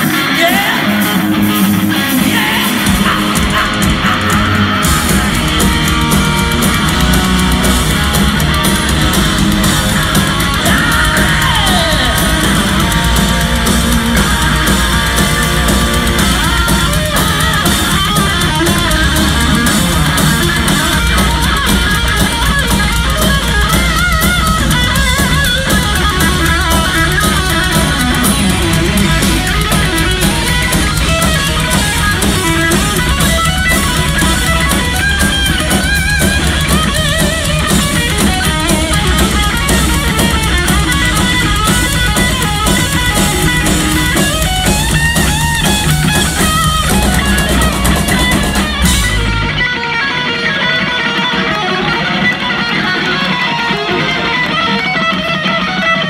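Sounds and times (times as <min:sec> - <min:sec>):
bass guitar: 0:00.0 - 0:56.0
drum kit: 0:00.0 - 0:56.0
electric guitar lead lines: 0:00.0 - 0:56.0.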